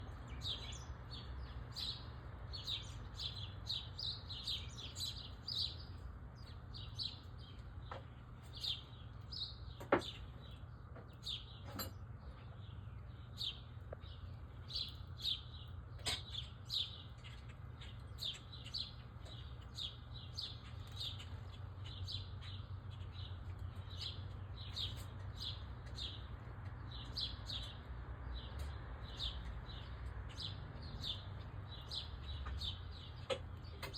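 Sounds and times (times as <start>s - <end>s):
small birds chirping: 0.0s - 33.9s
steady low hum: 0.0s - 33.9s.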